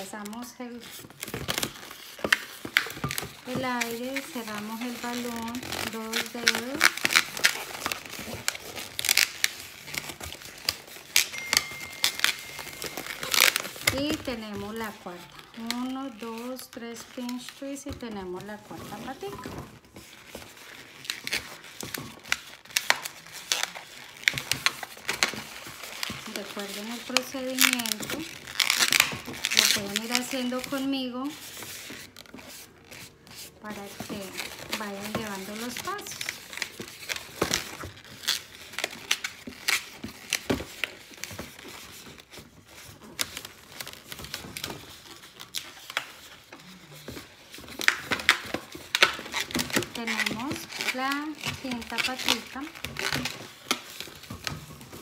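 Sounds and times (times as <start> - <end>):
balloon squeaking and rubbing: 0.0 - 55.0.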